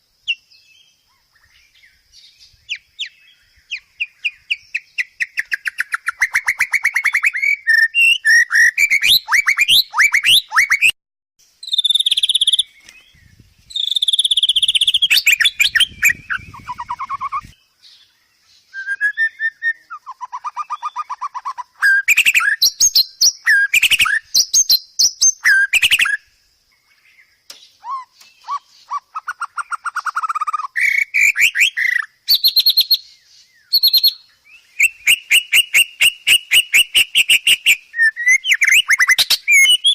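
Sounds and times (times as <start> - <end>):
bird singing trills and whistles: 0.2 - 11.0, 11.6 - 39.9.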